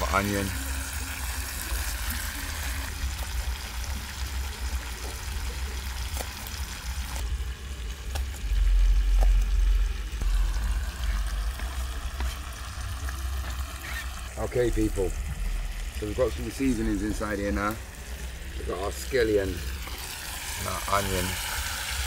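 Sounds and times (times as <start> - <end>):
pot sizzling over fire: 0.0 - 22.0.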